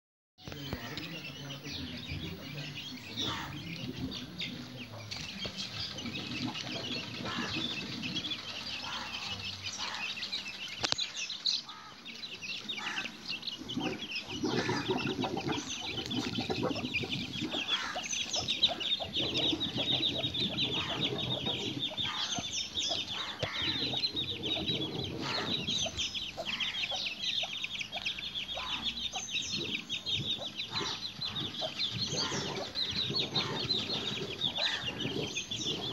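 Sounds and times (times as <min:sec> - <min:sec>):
chicks peeping: 0:00.4 - 0:35.9
hen clucking: 0:00.5 - 0:10.2, 0:11.7 - 0:35.9.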